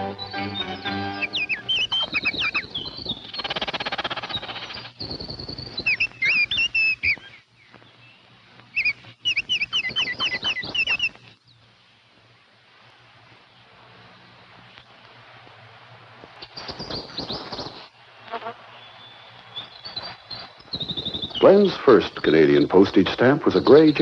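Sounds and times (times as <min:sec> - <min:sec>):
birds chattering and chirping: 0:00.0 - 0:11.7, 0:16.4 - 0:24.0
faint background hiss: 0:00.0 - 0:24.0.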